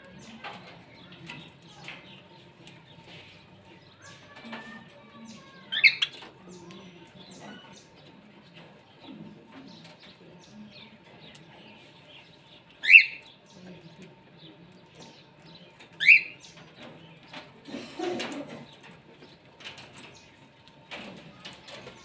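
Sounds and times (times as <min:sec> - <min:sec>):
faint bird chatter: 0:00.0 - 0:22.0
wing flapping and rustling: 0:00.0 - 0:22.0.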